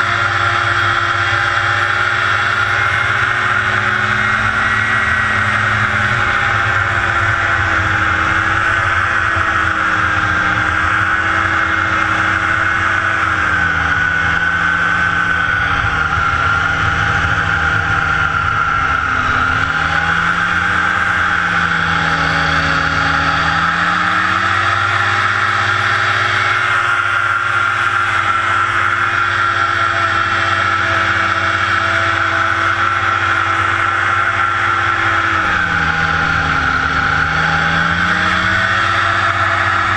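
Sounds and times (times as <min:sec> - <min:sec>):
hovercraft engine droning: 0:00.0 - 0:39.9.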